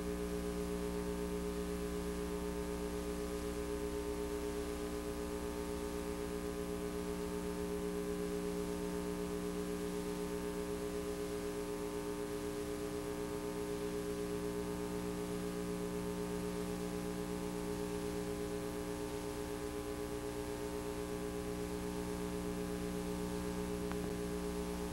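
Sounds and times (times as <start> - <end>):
electrical hum and buzz: 0.0 - 24.9.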